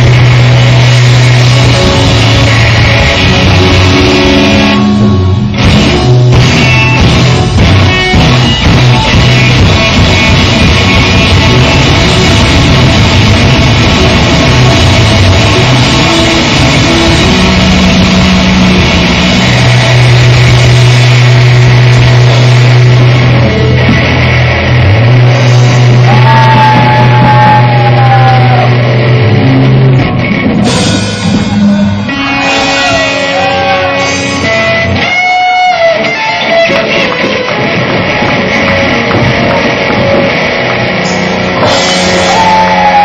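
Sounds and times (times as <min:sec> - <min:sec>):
loud rock music with guitar: 0:00.0 - 0:43.0.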